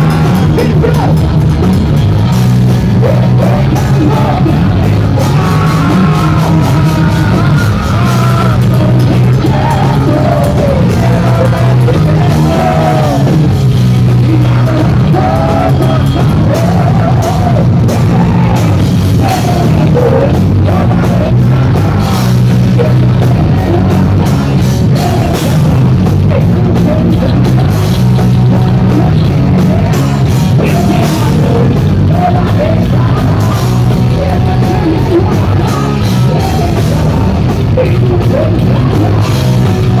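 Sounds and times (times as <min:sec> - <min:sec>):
man singing: 0:00.0 - 0:01.4, 0:02.7 - 0:40.0
heavy metal band playing: 0:00.0 - 0:40.0
pounding drum kit: 0:00.0 - 0:40.0.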